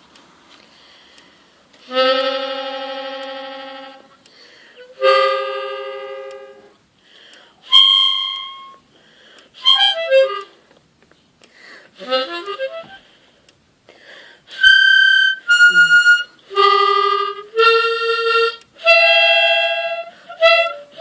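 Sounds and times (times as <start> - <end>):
free-reed instrument notes: 0.0 - 10.6, 11.9 - 13.2, 14.5 - 21.0.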